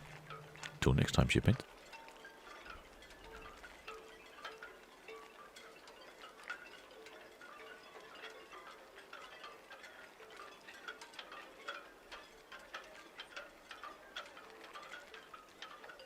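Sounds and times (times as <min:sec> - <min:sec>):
faint tinkling chime notes: 0:00.0 - 0:16.0.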